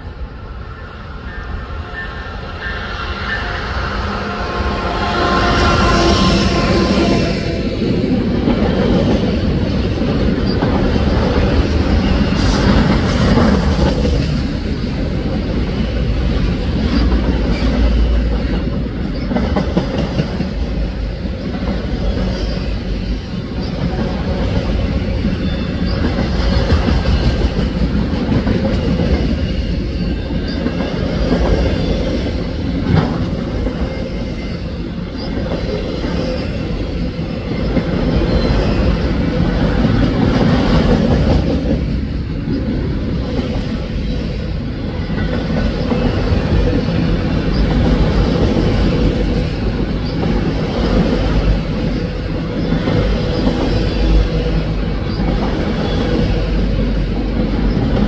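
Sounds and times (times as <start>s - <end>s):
steel wheels rumbling on rail: 0.0s - 58.0s
train cars clanking: 0.0s - 58.0s.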